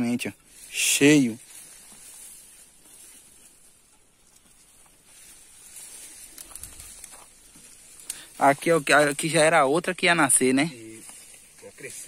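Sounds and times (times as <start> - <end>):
plant stems rustling in soil: 0.0 - 12.0.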